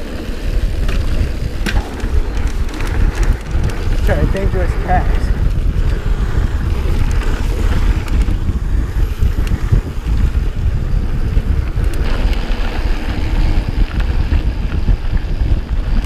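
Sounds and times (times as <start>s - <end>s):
bike clicks and rattles: 0.0s - 16.0s
bike tyres rumbling on dirt: 0.0s - 16.0s
wind buffeting microphone: 0.0s - 16.0s.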